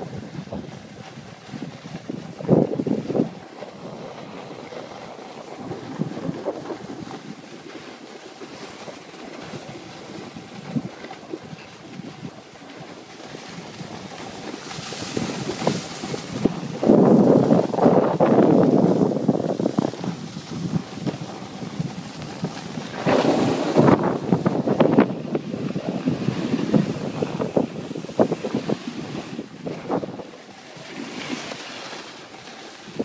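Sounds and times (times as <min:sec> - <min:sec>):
wind rushing over microphone: 0:00.0 - 0:07.8, 0:09.4 - 0:12.5, 0:13.4 - 0:32.0, 0:32.8 - 0:33.0
sliding on packed snow: 0:00.0 - 0:33.0.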